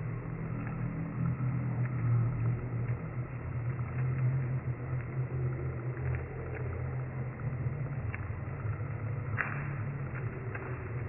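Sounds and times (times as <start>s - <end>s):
faint light ticks: 0.0s - 11.0s
low engine-like rumble: 0.0s - 11.0s.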